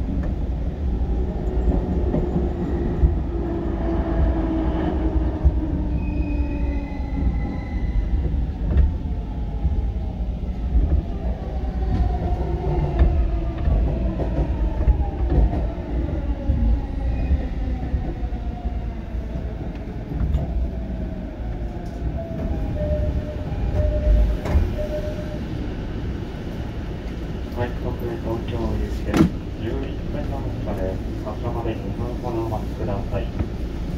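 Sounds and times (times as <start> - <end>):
wheels rumbling on rails: 0.0 - 33.9.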